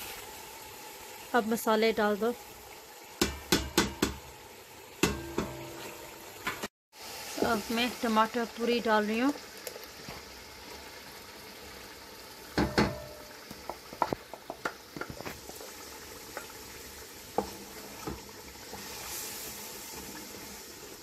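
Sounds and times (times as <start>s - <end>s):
sauce sizzling in a pot: 0.0s - 21.0s.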